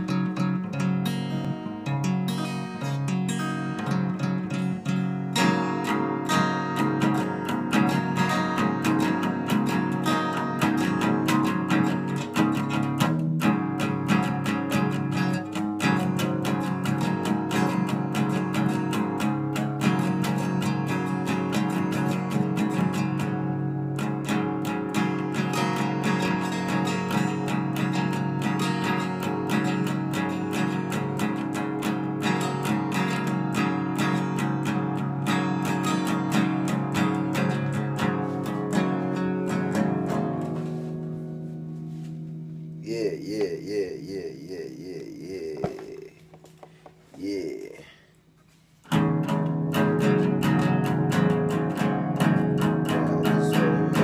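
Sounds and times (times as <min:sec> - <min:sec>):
acoustic guitar strumming chords: 0:00.0 - 0:47.8, 0:48.5 - 0:54.0.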